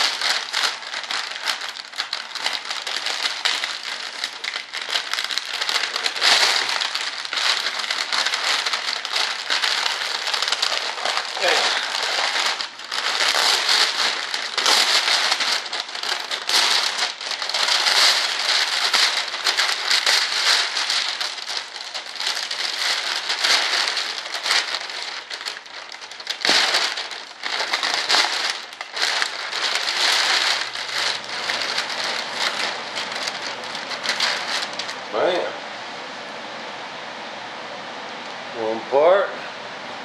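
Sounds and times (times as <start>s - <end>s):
plastic bag crinkling: 0.0s - 35.5s.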